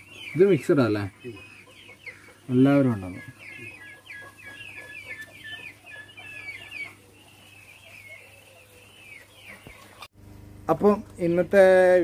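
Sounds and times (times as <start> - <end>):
poultry chicks chirping: 0.0 - 10.1, 10.8 - 12.0.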